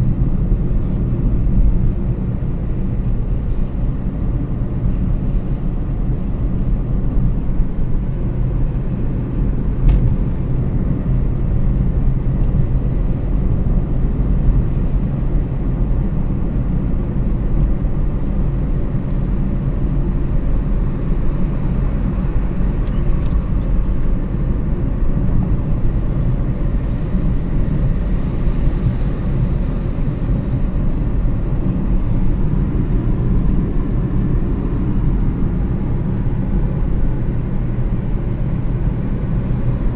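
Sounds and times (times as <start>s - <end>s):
vehicle rumbling on road: 0.0s - 39.9s.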